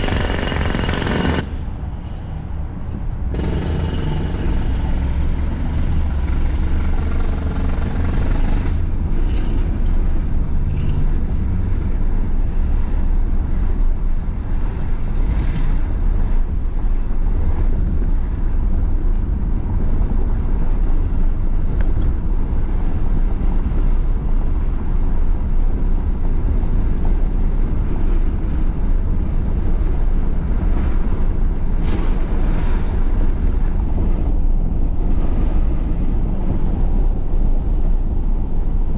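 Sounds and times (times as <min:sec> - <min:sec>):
road and wind noise from vehicle: 0:00.0 - 0:38.9.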